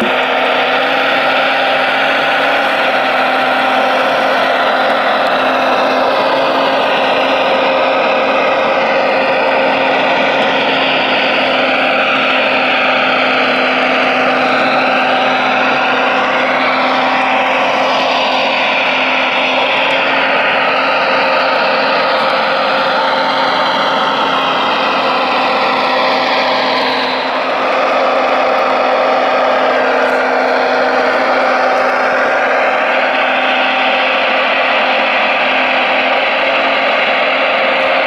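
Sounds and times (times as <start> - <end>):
hydraulic whine: 0.0 - 38.0
model excavator running: 0.0 - 38.0.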